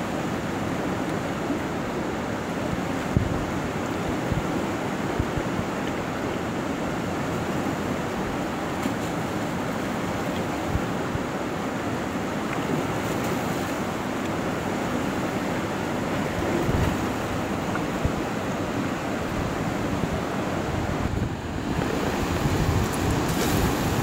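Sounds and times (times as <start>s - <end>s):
river rushing through rapids: 0.0s - 24.0s.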